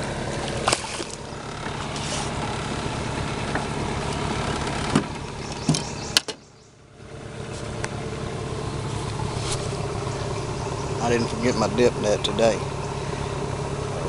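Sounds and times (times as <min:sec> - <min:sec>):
small boat motor idling: 0:00.0 - 0:14.0.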